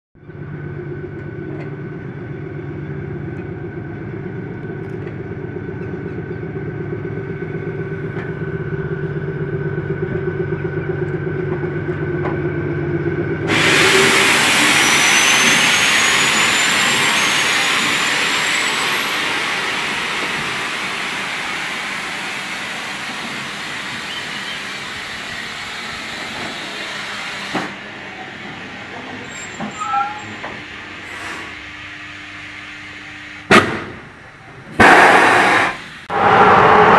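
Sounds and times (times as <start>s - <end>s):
locomotive machine hum: 0.2s - 36.9s.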